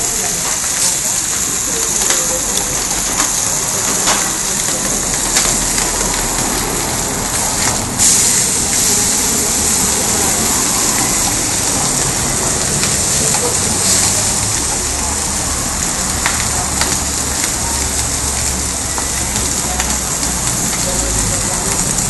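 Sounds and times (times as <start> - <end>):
meat sizzling on a griddle: 0.0 - 22.0.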